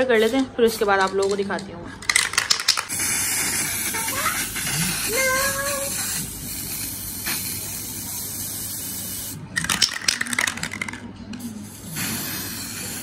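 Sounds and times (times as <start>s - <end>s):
spray can rattling: 1.0s - 4.7s, 5.7s - 13.0s
spray can hissing: 2.2s - 13.0s.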